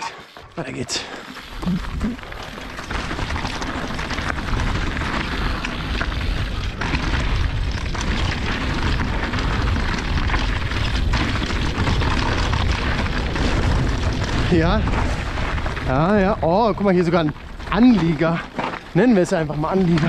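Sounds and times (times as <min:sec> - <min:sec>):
bike tyres crunching on gravel: 0:00.0 - 0:20.0
bike knocking over rough ground: 0:01.4 - 0:20.0
wind rumbling on microphone: 0:01.5 - 0:20.0.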